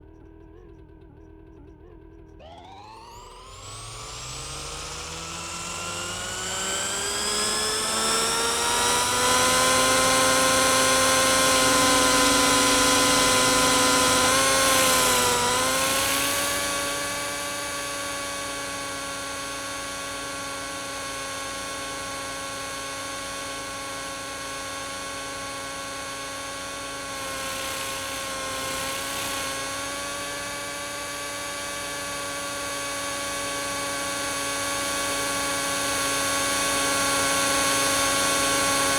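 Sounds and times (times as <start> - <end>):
rc helicopter rotor whine: 2.4 - 38.9.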